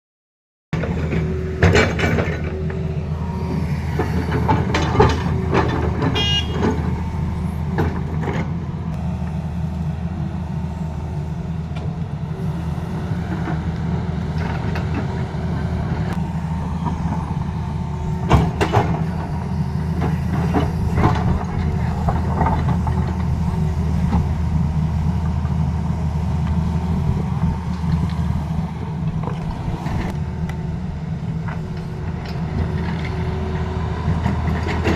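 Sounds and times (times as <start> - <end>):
excavator diesel engine running: 0.8 - 34.9.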